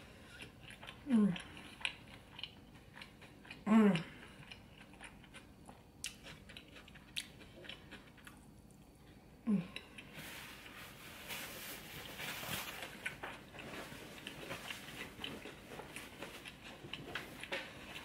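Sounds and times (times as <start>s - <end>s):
person chewing food: 0.0s - 11.1s, 11.9s - 18.0s.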